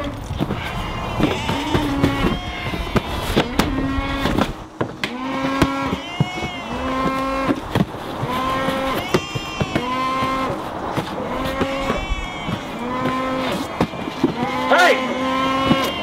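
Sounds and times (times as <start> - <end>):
cattle mooing: 0.0 - 16.0.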